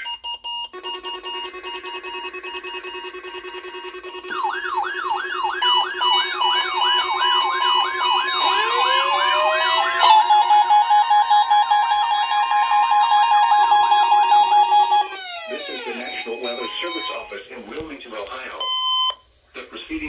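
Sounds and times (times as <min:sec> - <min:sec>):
weather alert radio beeping: 0:00.0 - 0:19.2
warbling alarm tone: 0:00.6 - 0:17.6
siren-like sweeping tone: 0:00.7 - 0:17.4.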